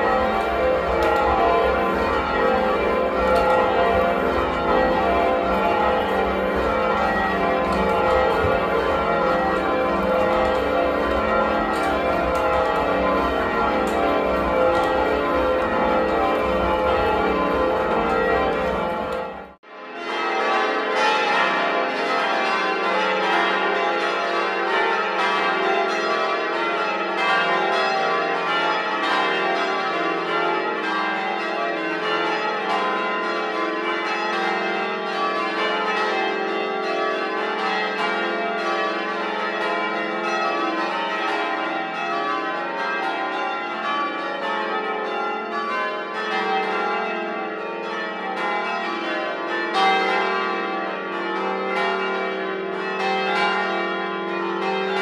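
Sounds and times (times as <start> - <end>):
church bells change ringing: 0.0 - 55.0.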